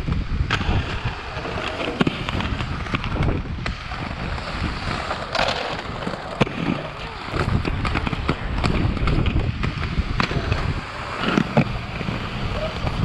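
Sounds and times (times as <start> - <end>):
skate wheels rolling on concrete: 0.0 - 13.0
skates clacking on ledge: 0.0 - 13.0
wind on microphone: 0.0 - 13.0.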